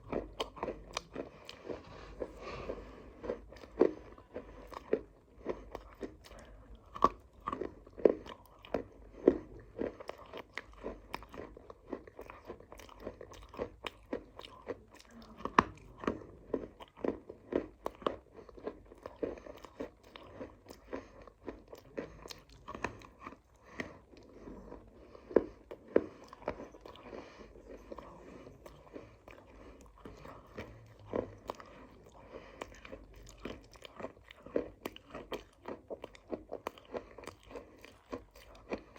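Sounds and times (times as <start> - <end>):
person chewing crunchy clay: 0.0 - 38.9.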